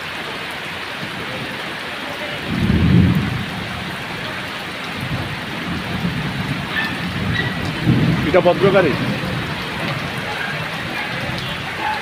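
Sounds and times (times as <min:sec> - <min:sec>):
heavy rain on standing water: 0:00.0 - 0:12.0.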